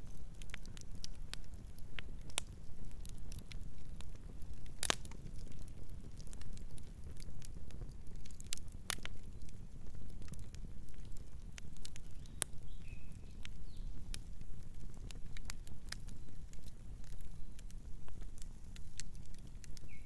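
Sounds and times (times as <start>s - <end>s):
wood fire crackling and snapping: 0.0s - 20.0s.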